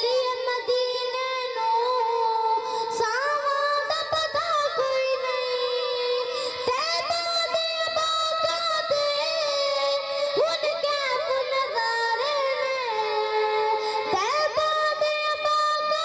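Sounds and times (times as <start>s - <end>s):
boy singing devotional song: 0.0s - 16.0s.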